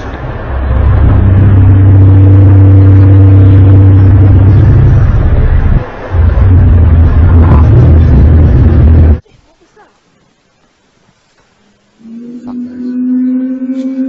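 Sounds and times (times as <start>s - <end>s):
loud low droning hum: 0.0s - 9.2s, 11.8s - 14.0s.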